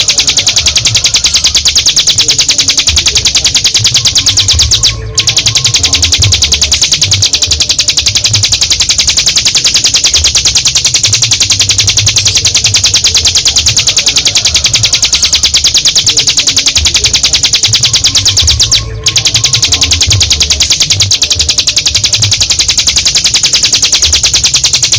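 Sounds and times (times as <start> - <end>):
bird singing fast high rattle: 0.0 - 24.9.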